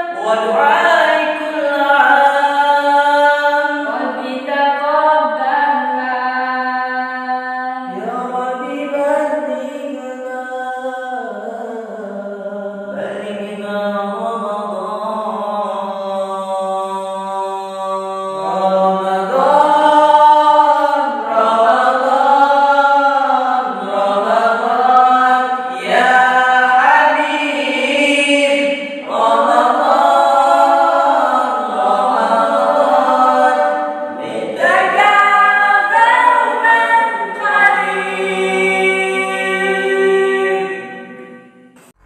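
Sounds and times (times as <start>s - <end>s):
a cappella group singing: 0.0s - 42.0s.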